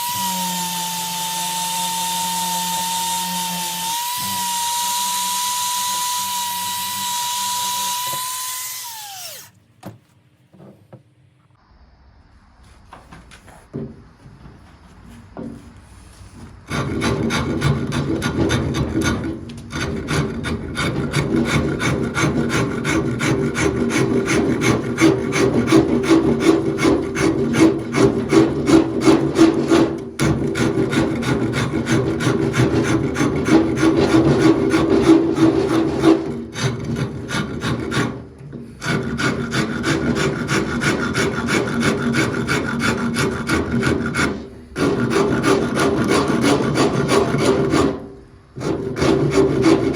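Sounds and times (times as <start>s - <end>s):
rasp filing wood: 0.0s - 9.5s, 16.7s - 49.9s.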